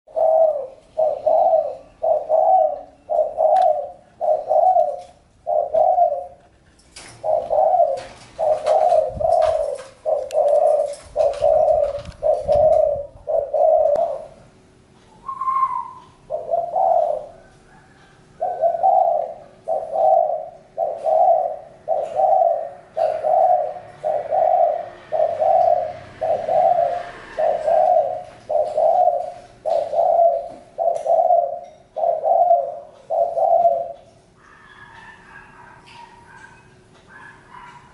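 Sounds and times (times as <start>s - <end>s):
dove cooing: 0.1s - 14.5s, 15.1s - 37.9s.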